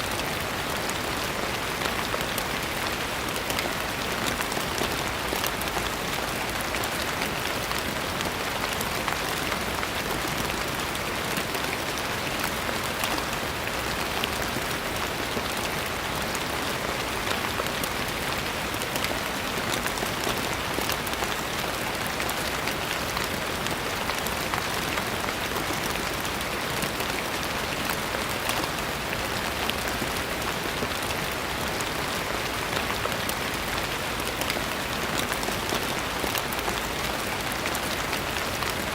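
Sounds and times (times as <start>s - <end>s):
steady rain pattering: 0.0s - 38.9s.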